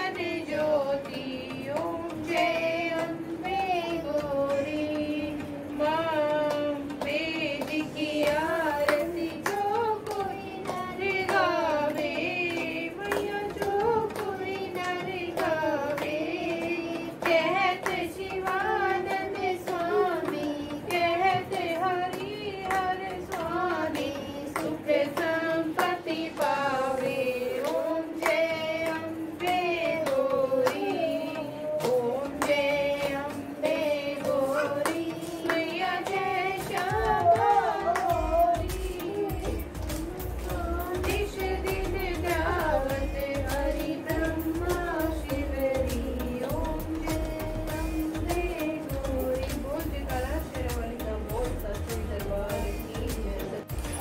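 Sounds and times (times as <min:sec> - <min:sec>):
rhythmic hand clapping: 0:00.0 - 0:54.0
women singing a hymn in unison: 0:00.0 - 0:54.0.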